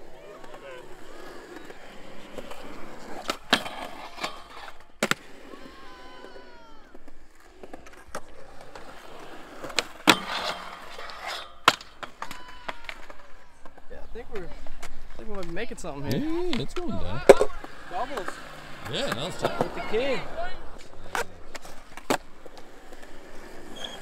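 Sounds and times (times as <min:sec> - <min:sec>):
skateboard wheels rolling on concrete: 0:00.0 - 0:24.0
skateboard clacking on ground: 0:00.3 - 0:05.4, 0:06.0 - 0:24.0.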